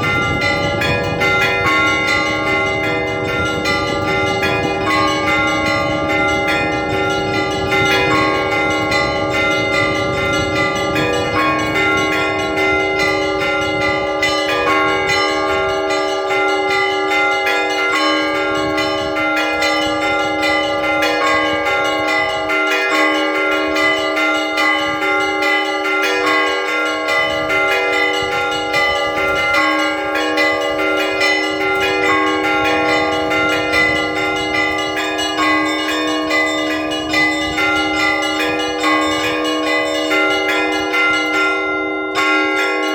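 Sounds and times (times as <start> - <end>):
church bells ringing: 0.0 - 42.9.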